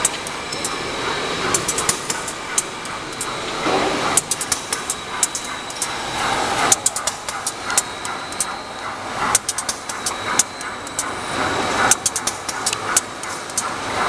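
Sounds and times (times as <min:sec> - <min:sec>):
machine running: 0:00.0 - 0:14.0
sharp mechanical clicks and clacks: 0:00.0 - 0:14.0.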